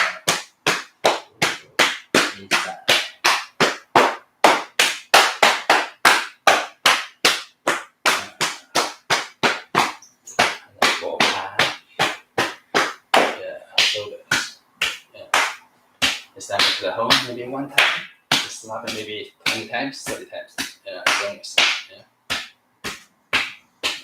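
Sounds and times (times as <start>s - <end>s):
hands slapping body: 0.0s - 24.0s.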